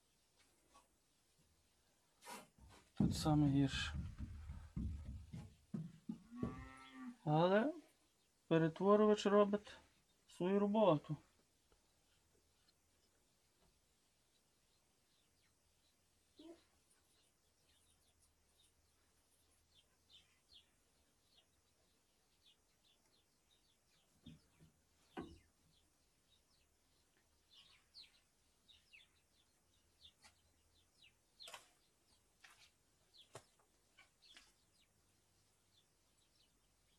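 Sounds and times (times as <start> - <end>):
faint birds chirping: 0.0 - 36.9.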